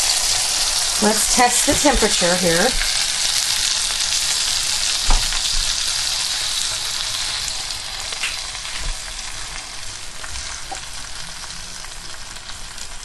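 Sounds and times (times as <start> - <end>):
fat sizzling in roasting pan: 0.0 - 13.0.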